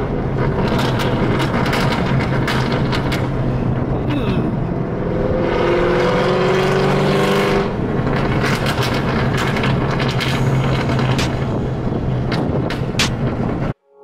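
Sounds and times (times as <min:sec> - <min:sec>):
car engine revving: 0:00.0 - 0:13.8
road noise inside car: 0:00.0 - 0:13.8.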